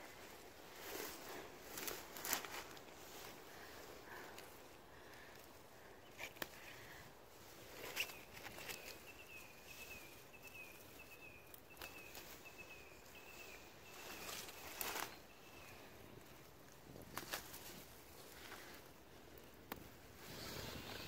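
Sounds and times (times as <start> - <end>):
brushing against plants: 0.0 - 4.6, 5.2 - 21.0
footsteps through undergrowth: 0.0 - 21.0.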